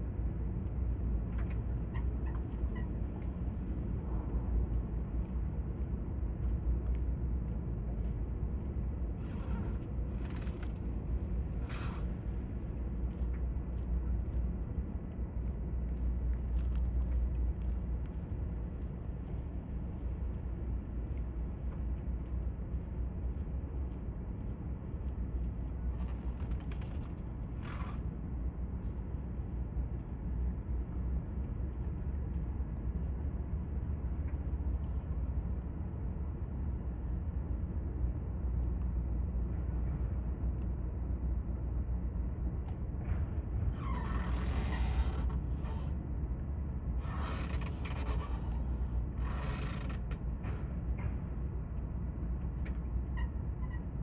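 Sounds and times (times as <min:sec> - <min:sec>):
low harbour rumble: 0:00.0 - 0:54.0.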